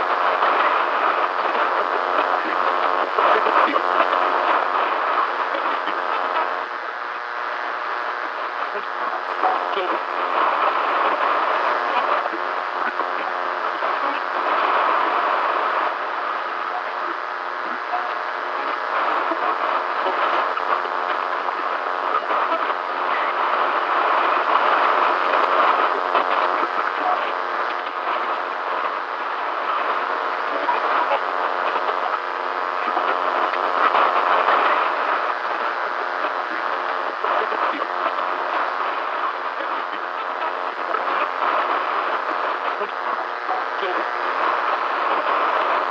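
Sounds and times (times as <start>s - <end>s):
garbled radio voice: 0.0s - 45.9s
radio static hiss and crackle: 0.0s - 45.9s.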